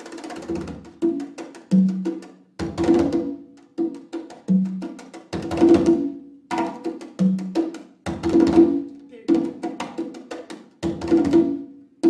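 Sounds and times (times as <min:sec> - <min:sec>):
congas played by hand: 0:00.0 - 0:12.0.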